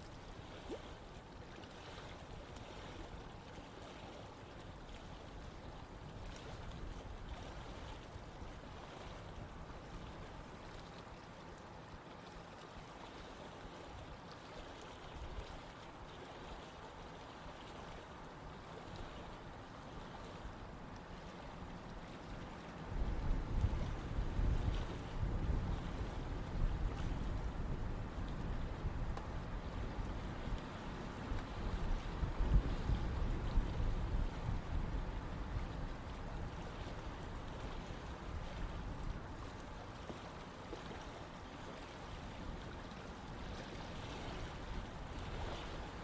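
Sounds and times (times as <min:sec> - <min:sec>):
stream water flowing: 0:00.0 - 0:46.0.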